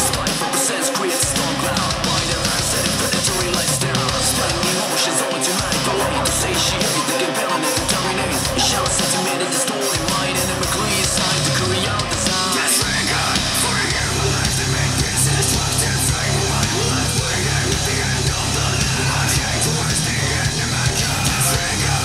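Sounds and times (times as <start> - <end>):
hard rock music through speaker: 0.0 - 22.0.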